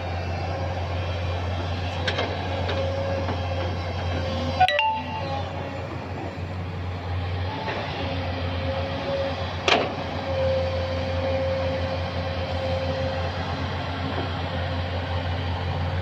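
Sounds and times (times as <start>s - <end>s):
excavator diesel engine with whine: 0.0s - 16.0s.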